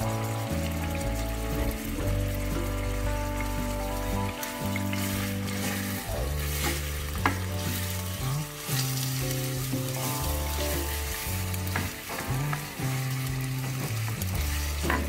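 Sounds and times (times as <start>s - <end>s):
background music with low notes: 0.0s - 15.0s
beef sizzling in a frying pan: 0.0s - 15.0s.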